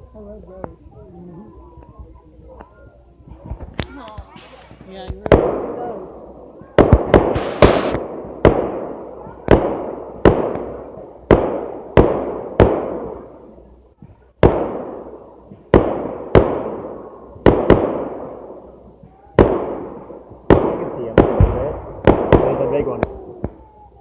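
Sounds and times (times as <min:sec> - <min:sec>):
fireworks bangs with echo: 0:03.8 - 0:23.8.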